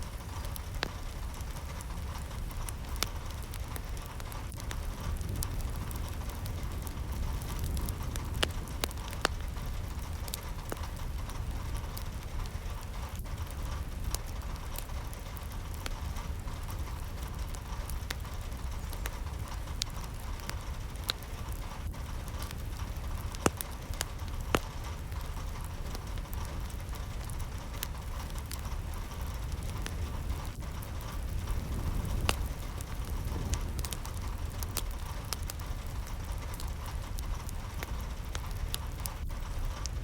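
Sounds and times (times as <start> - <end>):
steady rain with low rumble: 0.0 - 40.0.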